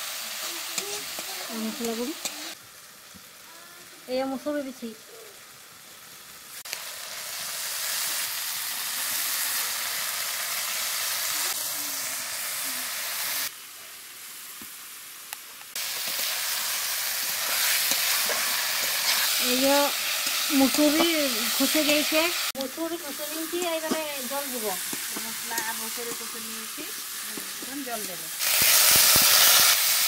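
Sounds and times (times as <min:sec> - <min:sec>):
lentils sizzling in hot oil: 0:00.0 - 0:30.0.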